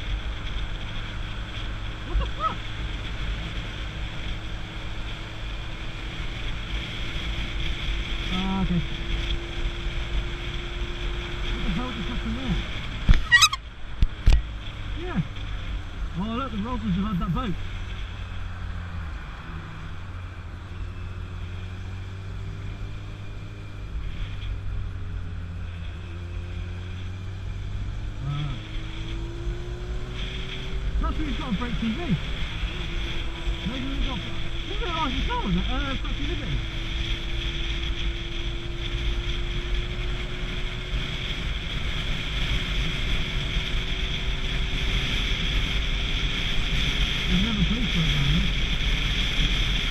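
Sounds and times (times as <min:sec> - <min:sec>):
motorcycle engine humming: 0:00.0 - 0:49.9
road noise: 0:00.0 - 0:49.9
wind rushing over microphone: 0:00.0 - 0:49.9.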